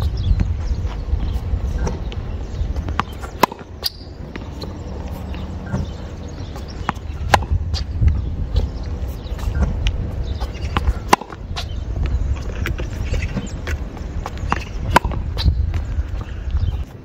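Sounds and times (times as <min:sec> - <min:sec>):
tennis ball hit and bouncing: 0:01.3 - 0:11.8, 0:12.4 - 0:16.3.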